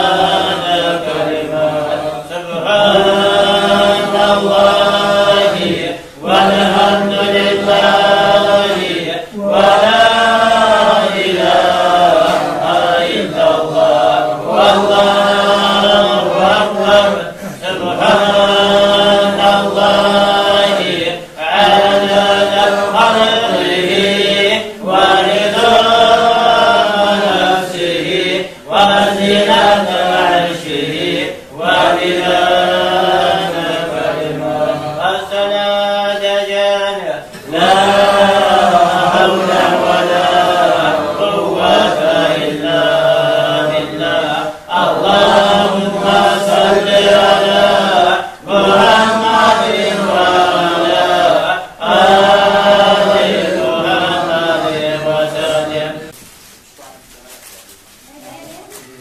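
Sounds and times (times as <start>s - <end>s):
men chanting together: 0.0s - 56.2s.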